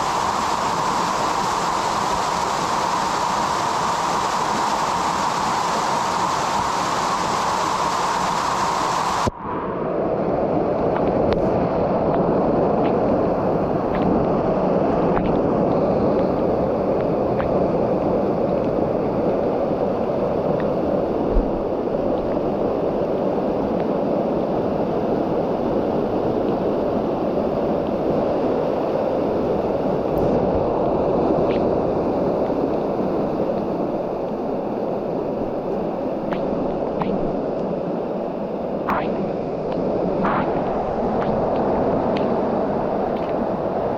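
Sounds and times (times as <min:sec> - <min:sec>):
small waterfall rushing: 0:00.0 - 0:09.3, 0:12.7 - 0:43.9.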